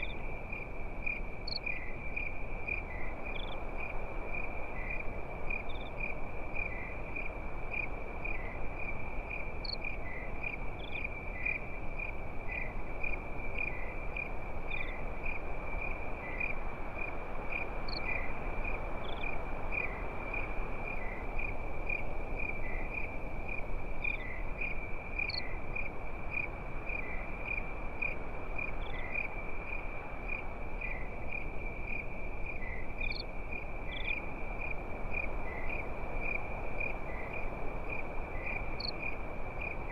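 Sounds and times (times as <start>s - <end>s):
cricket chirping: 0.0s - 39.9s
cricket trilling: 0.0s - 39.9s
soft steady hiss: 0.0s - 39.9s.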